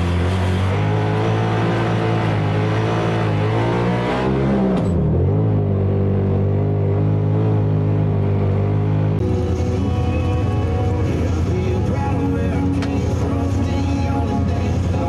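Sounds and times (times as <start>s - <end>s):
off-road vehicle engine driving: 0.0s - 15.0s.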